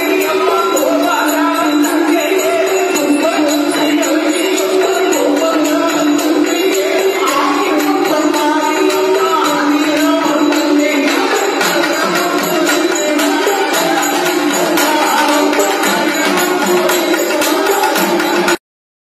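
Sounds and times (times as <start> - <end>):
fast drumming: 0.0 - 18.6
jingling percussion: 0.0 - 18.6.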